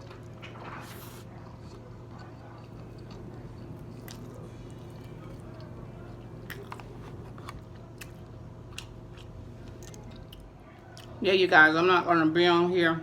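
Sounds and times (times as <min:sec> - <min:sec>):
person chewing food: 0:00.0 - 0:11.2
steady low hum: 0:00.0 - 0:13.0.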